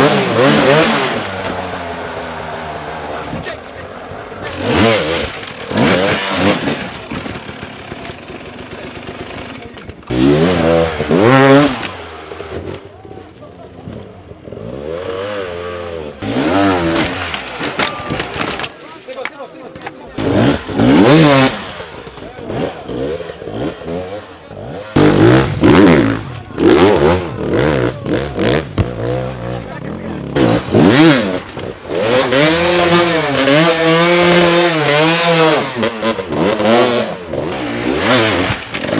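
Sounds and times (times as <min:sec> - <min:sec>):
dirt bike engine revving: 0:00.0 - 0:18.7, 0:20.1 - 0:38.9.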